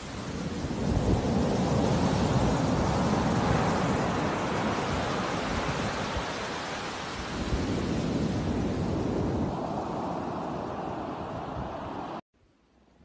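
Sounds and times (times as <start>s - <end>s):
surf breaking on beach: 0.0s - 12.2s
wind buffeting microphone: 0.1s - 12.2s.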